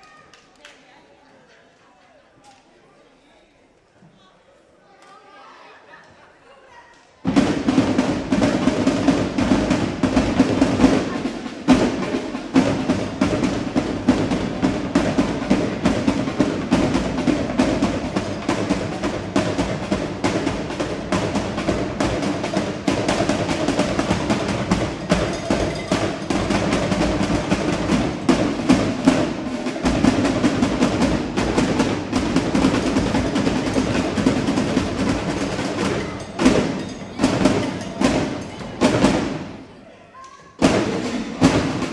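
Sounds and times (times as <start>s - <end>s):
drumline snare and bass drums: 7.2s - 39.8s, 40.5s - 41.9s.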